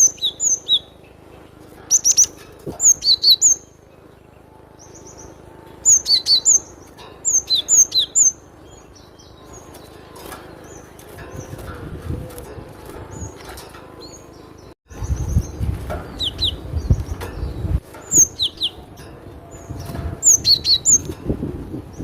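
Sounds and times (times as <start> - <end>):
bird chirping sharply: 0.0 - 1.2, 1.8 - 11.6, 13.2 - 18.9, 19.5 - 21.1
low rumbling background noise: 0.0 - 22.0.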